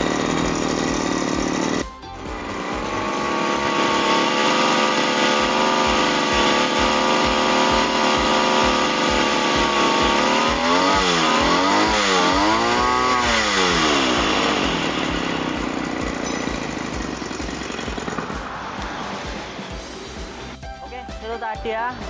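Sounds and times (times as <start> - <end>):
brush cutter engine revving: 0.0 - 20.6.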